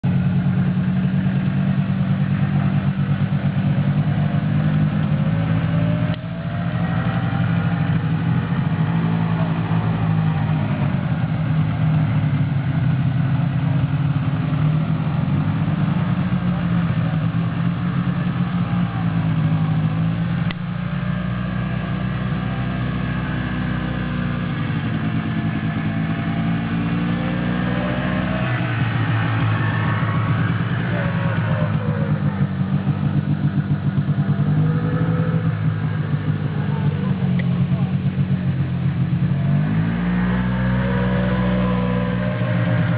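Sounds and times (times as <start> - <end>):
quad bike engines revving: 0.0 - 42.9.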